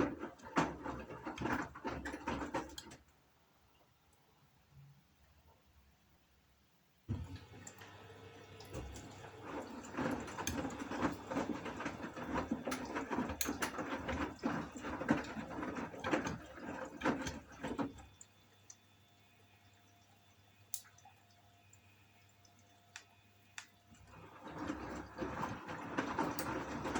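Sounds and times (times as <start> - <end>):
water splashing in washing machine: 0.0 - 3.1, 7.1 - 26.9.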